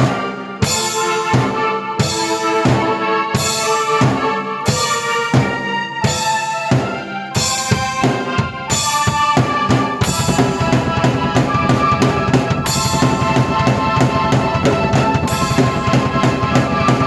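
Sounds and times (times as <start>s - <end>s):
drum kit beats: 0.0s - 17.0s
sustained keyboard chords: 0.0s - 17.0s.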